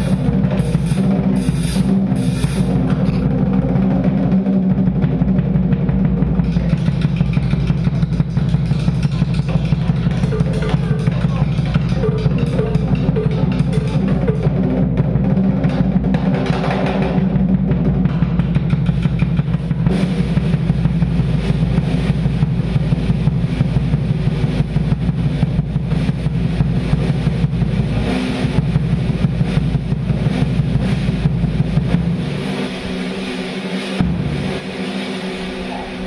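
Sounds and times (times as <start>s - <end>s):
fast drum solo: 0.0s - 36.0s.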